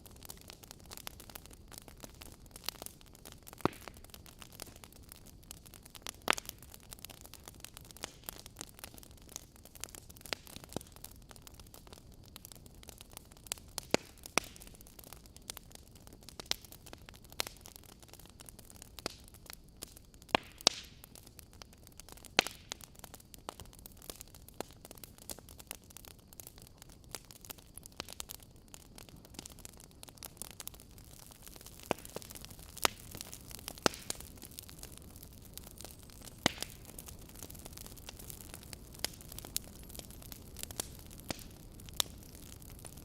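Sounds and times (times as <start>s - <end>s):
low steady hiss: 0.0s - 43.0s
wood fire crackling and popping: 0.0s - 43.0s.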